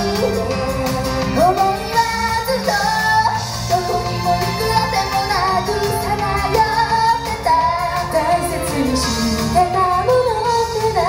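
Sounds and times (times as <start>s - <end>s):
pop backing music: 0.0s - 11.0s
women singing live: 0.0s - 11.0s.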